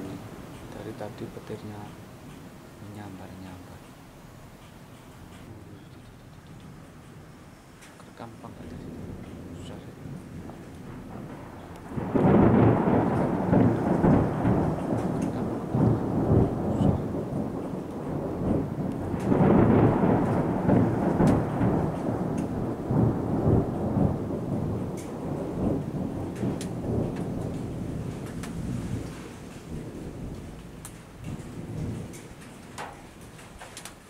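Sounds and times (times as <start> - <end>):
thunder rumbling: 0.0 - 3.8, 5.3 - 34.0.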